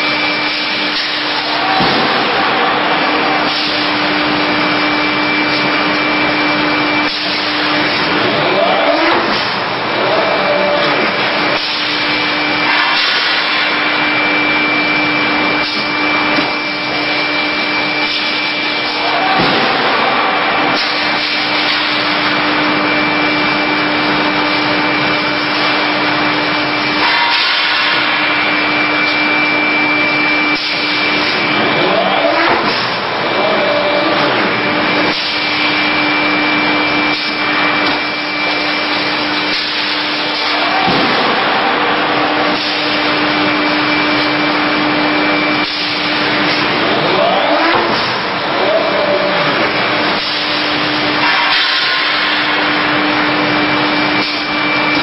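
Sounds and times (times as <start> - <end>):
machinery hum: 0.0 - 55.0
short rising whines: 0.0 - 55.0.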